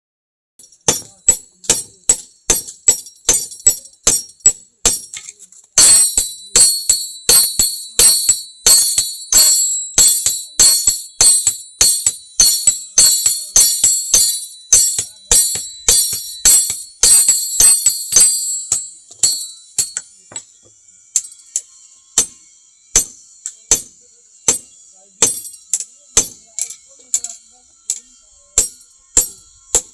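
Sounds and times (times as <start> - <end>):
hammer striking blade on anvil: 0.6 - 20.5, 21.1 - 29.9.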